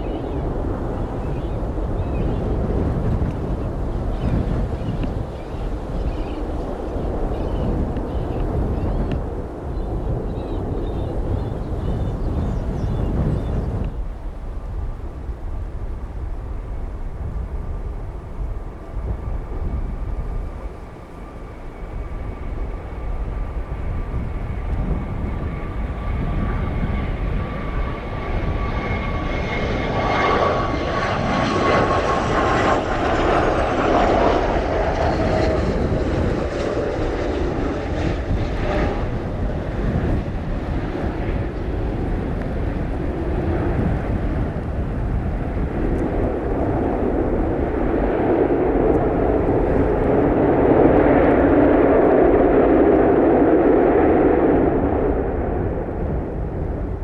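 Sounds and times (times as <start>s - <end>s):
airplane engine passing overhead: 0.0s - 57.0s.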